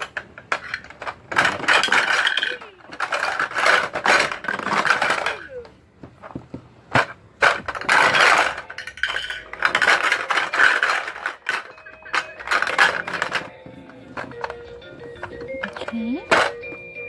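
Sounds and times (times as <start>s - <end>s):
plastic toy train clattering: 0.0s - 16.8s
toy rattling: 0.0s - 17.0s.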